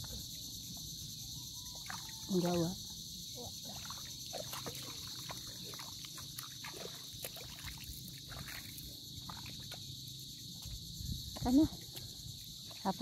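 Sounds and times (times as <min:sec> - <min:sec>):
high buzz of insects: 0:00.0 - 0:13.0.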